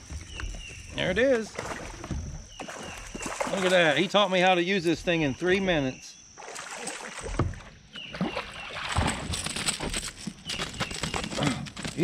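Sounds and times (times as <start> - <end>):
water sloshing: 0.0 - 4.2, 6.4 - 12.0.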